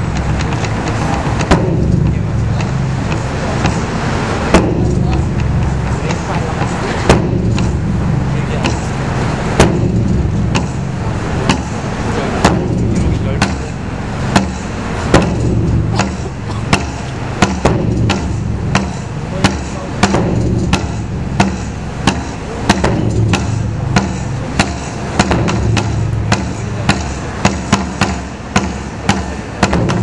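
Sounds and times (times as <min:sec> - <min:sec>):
backing music with steady beat: 0:00.0 - 0:30.0.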